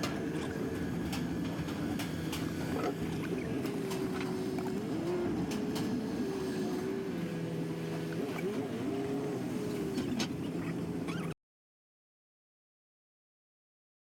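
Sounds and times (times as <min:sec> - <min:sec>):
vehicle engine and road noise: 0:00.0 - 0:11.4.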